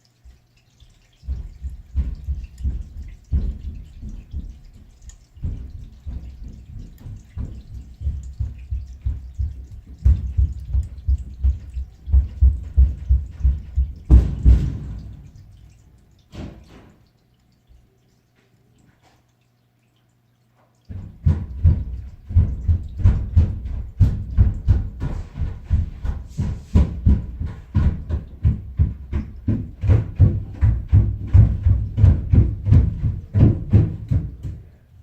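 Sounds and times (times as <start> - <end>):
water thudding in drain pipe: 0.0 - 35.0.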